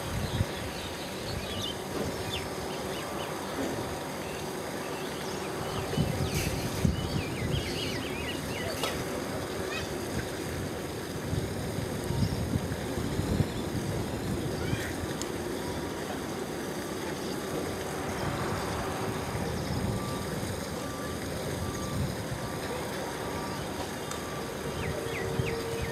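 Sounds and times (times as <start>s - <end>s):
wind buffeting microphone: 0.0s - 2.6s, 5.5s - 22.9s, 23.5s - 25.9s
jet engines rumbling: 0.0s - 25.9s.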